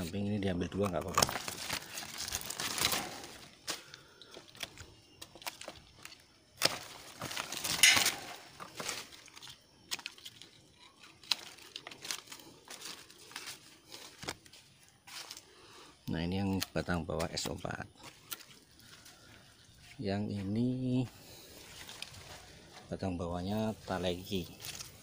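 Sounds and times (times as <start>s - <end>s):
leaves rustling against microphone: 0.0s - 25.0s.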